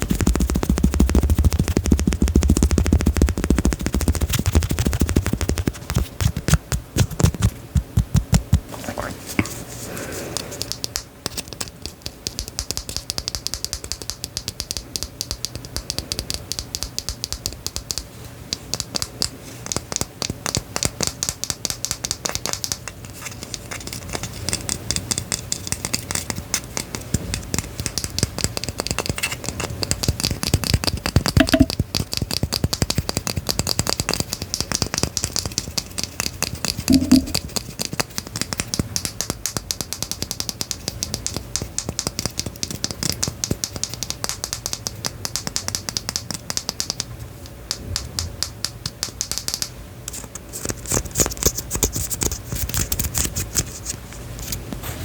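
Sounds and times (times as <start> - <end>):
rapid clicking and tapping: 0.0 - 8.7, 10.3 - 54.0.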